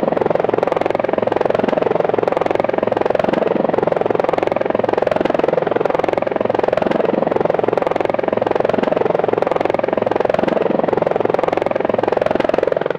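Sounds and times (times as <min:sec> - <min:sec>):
helicopter rotor chop: 0:00.0 - 0:12.9
turbine noise: 0:00.0 - 0:12.9.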